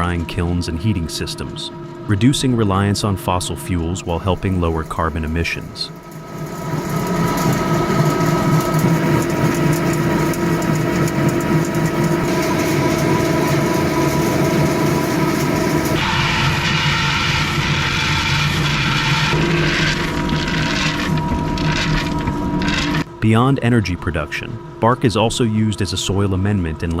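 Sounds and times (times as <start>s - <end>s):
heavy industrial machinery running: 0.0s - 23.2s
different machine noise: 0.0s - 27.0s.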